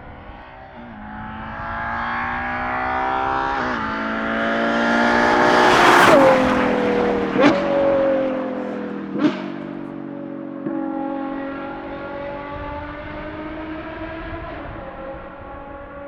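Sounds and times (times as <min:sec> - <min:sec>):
sports car engine accelerating: 0:00.0 - 0:16.0.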